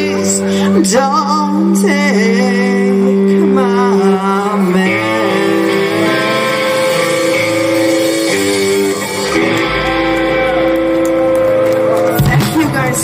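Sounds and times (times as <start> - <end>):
electric guitar held notes: 0.0 - 13.0
live rockabilly band: 0.0 - 13.0.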